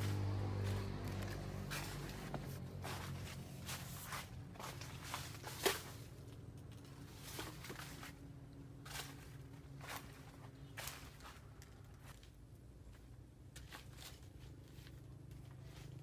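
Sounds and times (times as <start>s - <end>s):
crunching rustling footsteps: 0.0s - 16.0s.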